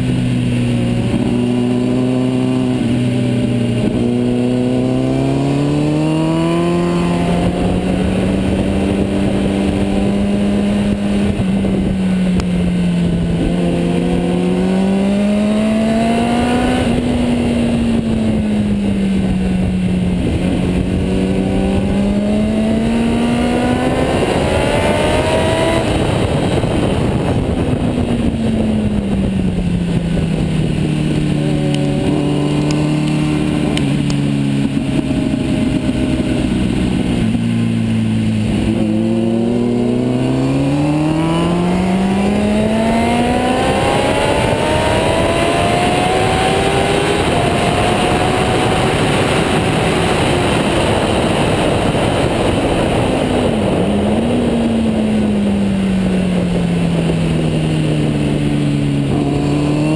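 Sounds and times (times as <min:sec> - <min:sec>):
motorcycle engine accelerating: 0:00.0 - 0:59.9
wind rush: 0:00.0 - 0:59.9.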